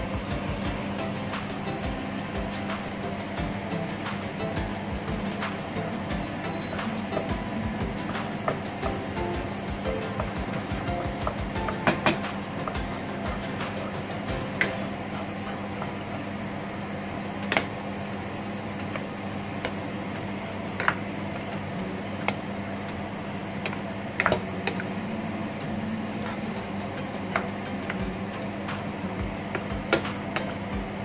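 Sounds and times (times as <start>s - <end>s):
chicken sizzling in hot oil: 0.0s - 31.0s
low hum: 0.0s - 31.0s.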